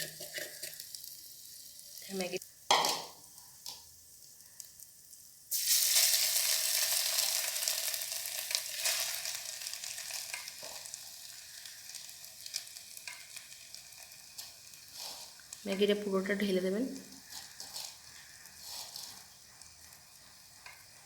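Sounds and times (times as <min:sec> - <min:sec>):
noodles sizzling in hot oil: 0:00.0 - 0:21.0.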